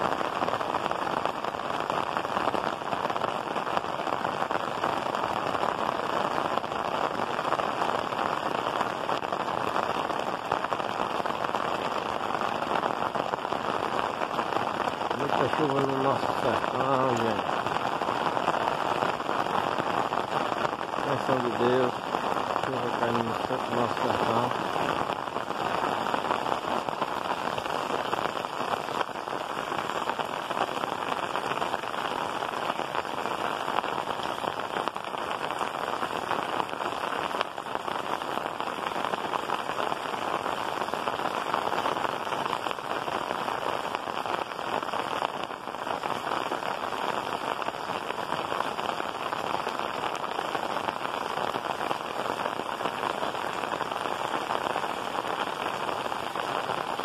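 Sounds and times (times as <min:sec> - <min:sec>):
rain on roof tiles: 0:00.0 - 0:57.0.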